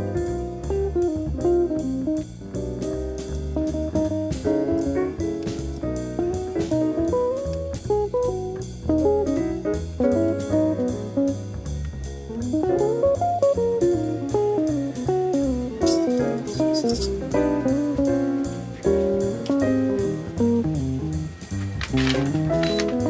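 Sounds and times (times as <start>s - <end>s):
instrumental guitar music: 0.0s - 23.0s.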